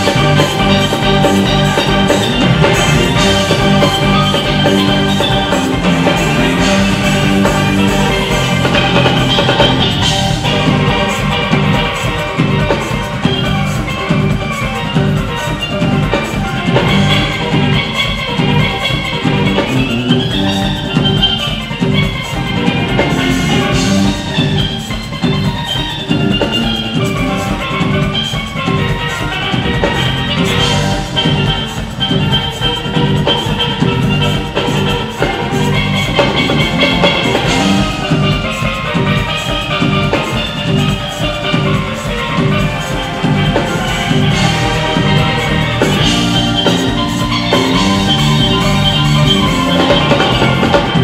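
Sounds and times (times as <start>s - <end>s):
bass guitar: 0.0s - 51.0s
drum kit beat: 0.0s - 51.0s
steelpans playing melody: 0.0s - 51.0s.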